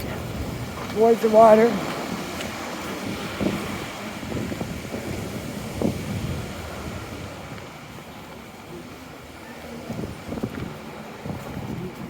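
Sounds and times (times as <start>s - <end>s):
traffic rushing: 0.0s - 12.0s
wind on microphone: 0.0s - 12.0s.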